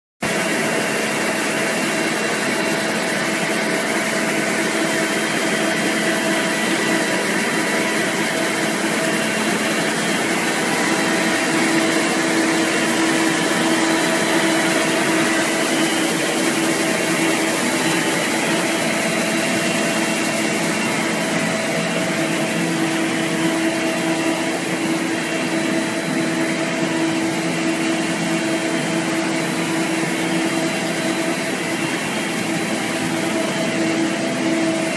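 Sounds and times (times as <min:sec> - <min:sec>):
machine drone: 0:00.2 - 0:34.9.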